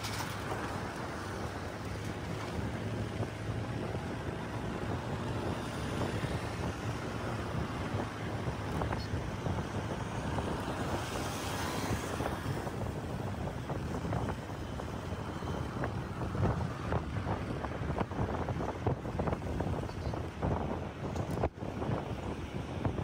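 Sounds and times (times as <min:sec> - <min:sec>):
passing trucks and cars: 0:00.0 - 0:23.0
vehicle engine and tyre hum: 0:00.0 - 0:23.0.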